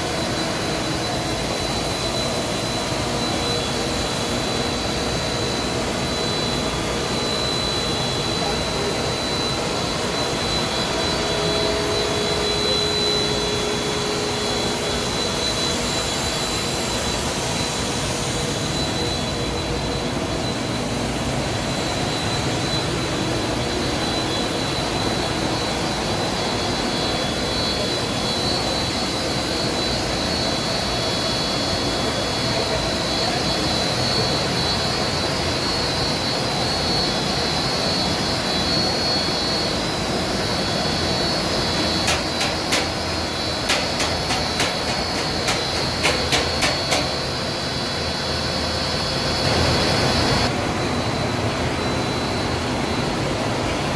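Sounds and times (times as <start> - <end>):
high steady machine whine: 0.0 - 53.9.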